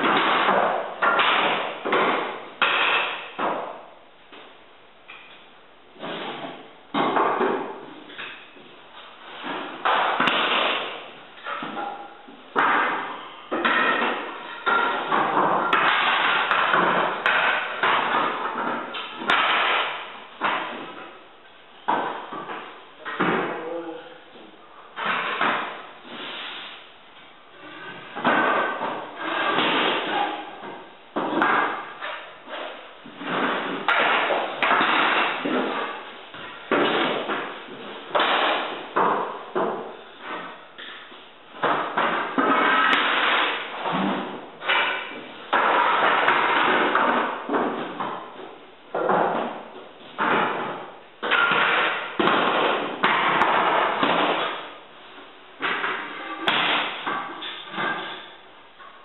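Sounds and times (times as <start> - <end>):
wooden boards knocking and scraping: 0.0 - 4.4, 6.0 - 21.2, 27.6 - 58.3.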